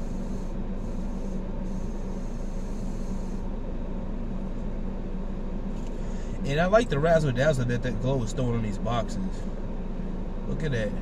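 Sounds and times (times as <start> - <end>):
low mechanical hum: 0.0 - 11.0
rumble and hiss: 0.0 - 11.0.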